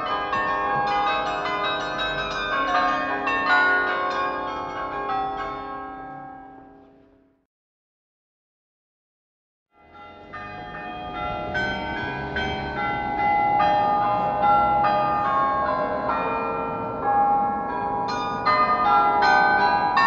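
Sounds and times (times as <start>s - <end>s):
carillon bells playing a tune: 0.0s - 6.8s, 9.8s - 20.0s.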